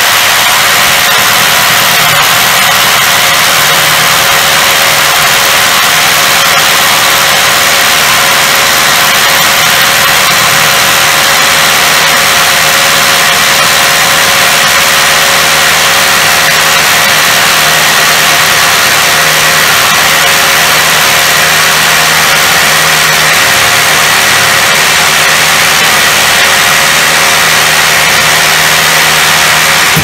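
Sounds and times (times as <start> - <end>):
rotary hammer drilling into concrete: 0.0 - 30.0.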